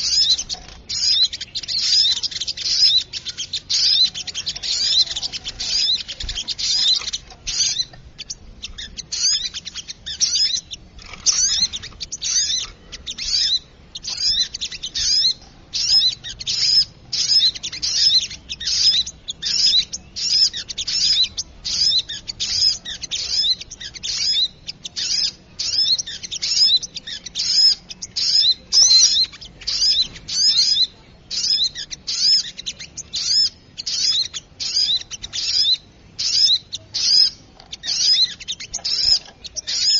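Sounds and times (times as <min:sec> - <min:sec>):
bird chattering high-pitched: 0:00.0 - 0:39.9.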